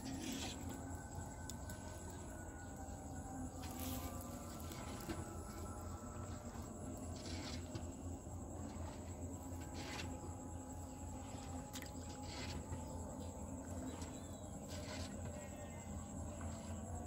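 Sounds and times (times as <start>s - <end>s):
insects droning: 0.0s - 17.0s
low hum: 0.0s - 17.0s.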